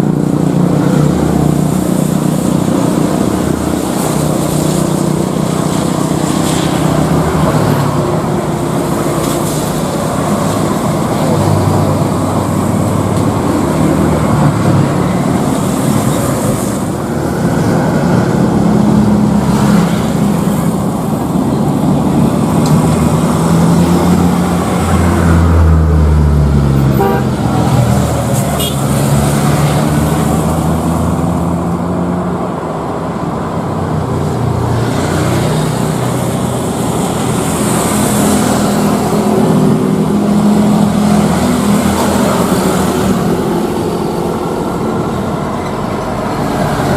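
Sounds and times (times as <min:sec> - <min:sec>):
engines rumbling: 0:00.0 - 0:46.9.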